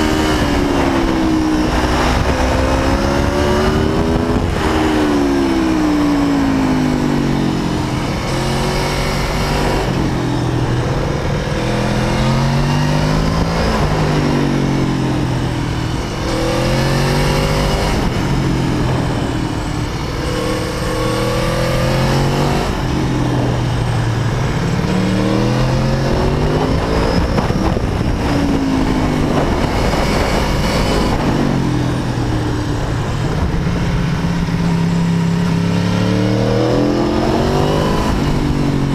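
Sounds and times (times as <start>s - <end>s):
motorcycle engine revving: 0.0s - 38.9s
wind rushing: 0.0s - 38.9s.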